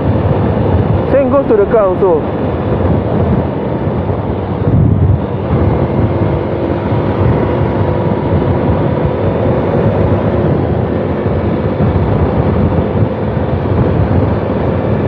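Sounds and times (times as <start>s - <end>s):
motorcycle engine cruising: 0.0s - 15.0s
wind rush on microphone: 0.0s - 15.0s.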